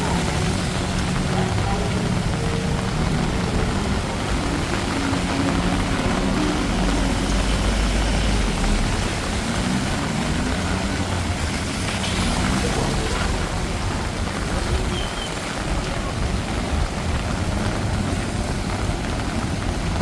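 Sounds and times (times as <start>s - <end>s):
heavy rain falling: 0.0s - 20.0s
vehicle engine rumble: 0.0s - 20.0s.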